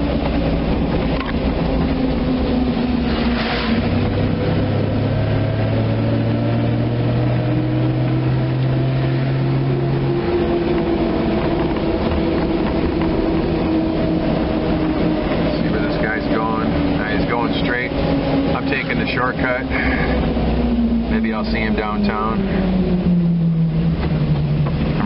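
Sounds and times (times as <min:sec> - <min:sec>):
truck engine hum: 0:00.0 - 0:25.0
tyre noise on wet road: 0:00.0 - 0:25.0.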